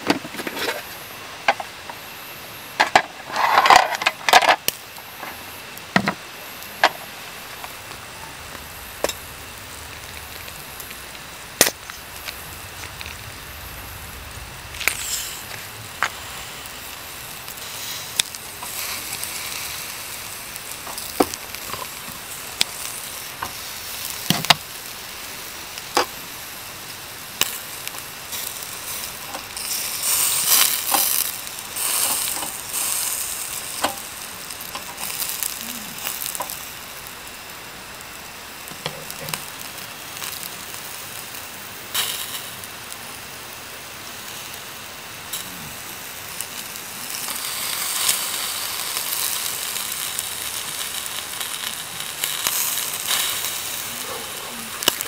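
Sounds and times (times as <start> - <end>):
meat sizzling on a grill: 0.3 - 55.0
charcoal pops and crackles: 2.8 - 55.0.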